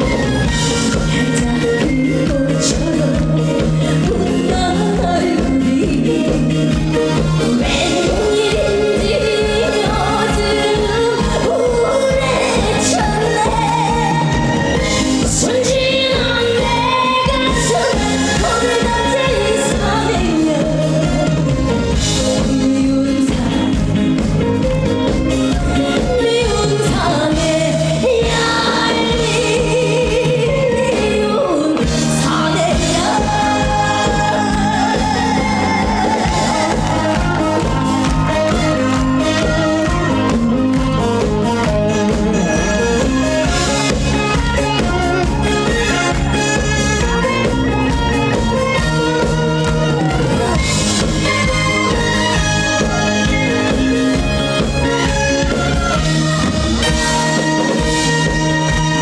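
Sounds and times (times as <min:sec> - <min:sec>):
amplified band with steady beat: 0:00.0 - 0:59.0
woman singing with vibrato: 0:00.0 - 0:59.0.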